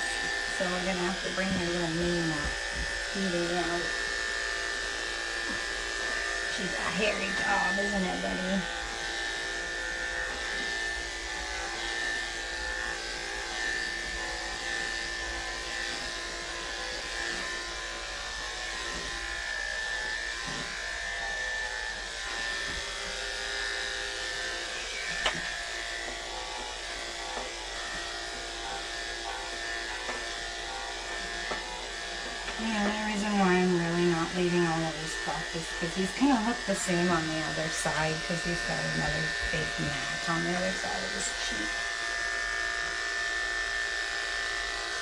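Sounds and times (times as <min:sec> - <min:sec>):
electric clippers buzzing: 0:00.0 - 0:45.0.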